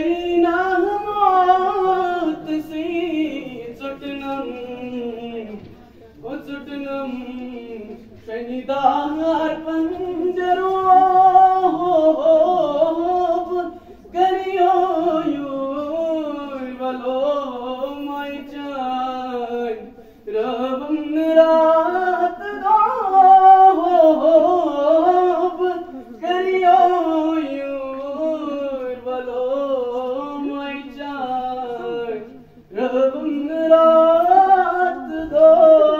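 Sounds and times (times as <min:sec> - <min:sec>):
boy singing into microphone: 0:00.0 - 0:35.9.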